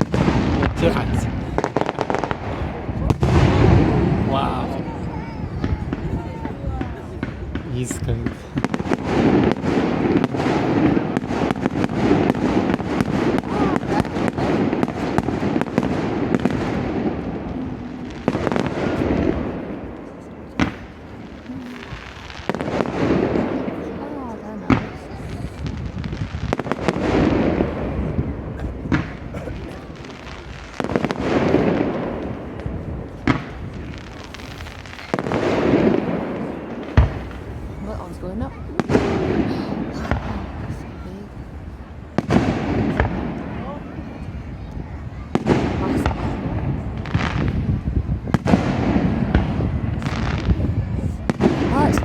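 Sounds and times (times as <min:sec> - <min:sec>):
continuous rumble: 0:00.0 - 0:52.0
fireworks bangs and crackles: 0:00.0 - 0:52.0.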